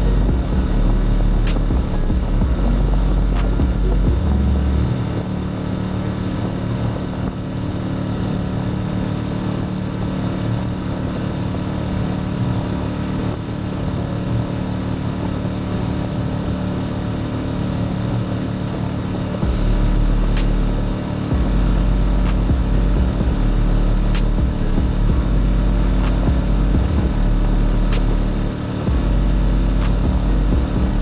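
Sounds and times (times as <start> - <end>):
low rumble: 0.0 - 31.0
small boat motor running: 0.0 - 31.0.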